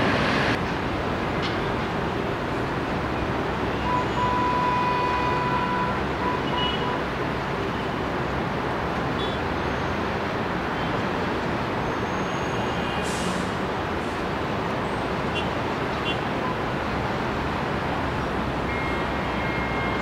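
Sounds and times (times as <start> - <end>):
distant city road traffic: 0.0 - 20.0
rail noise: 0.0 - 20.0.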